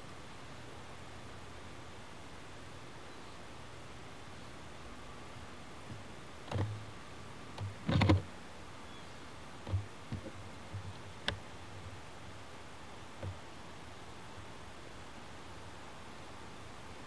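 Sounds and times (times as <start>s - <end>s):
tape hiss: 0.0s - 17.0s.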